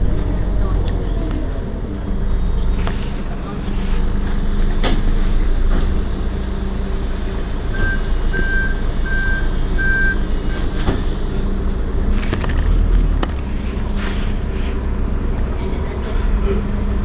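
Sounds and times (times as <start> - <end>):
bus engine idling: 0.0 - 17.0.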